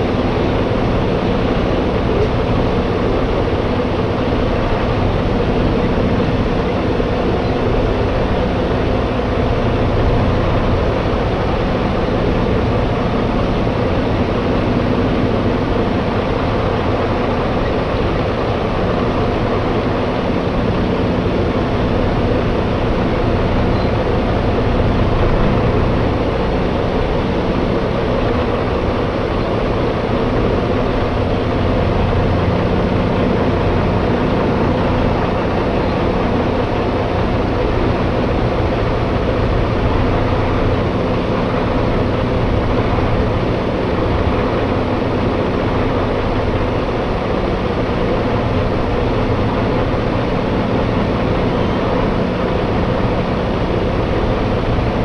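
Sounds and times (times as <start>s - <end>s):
road noise: 0.0s - 55.0s
truck diesel engine drone: 0.0s - 55.0s.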